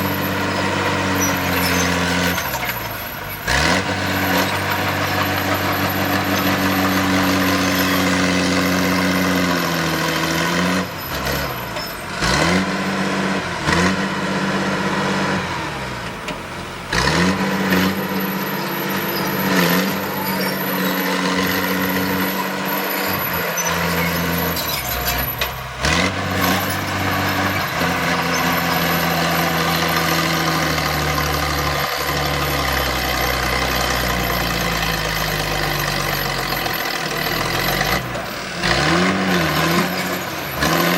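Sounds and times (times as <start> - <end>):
heavy diesel machinery engine: 0.0 - 40.9.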